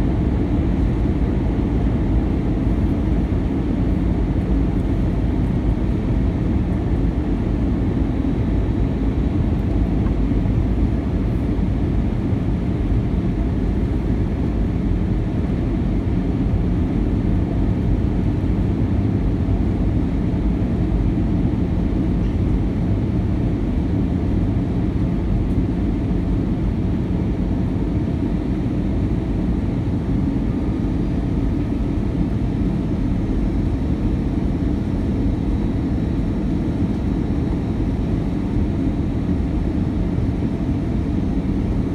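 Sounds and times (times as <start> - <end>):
airflow rush in cabin: 0.0 - 41.9.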